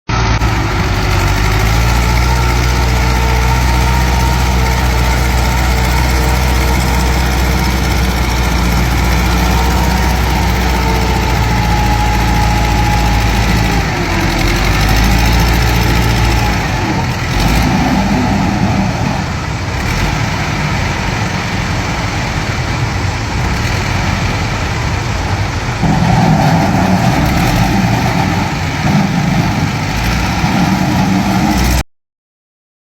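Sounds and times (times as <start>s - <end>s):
tractor diesel engine running: 0.1s - 31.8s.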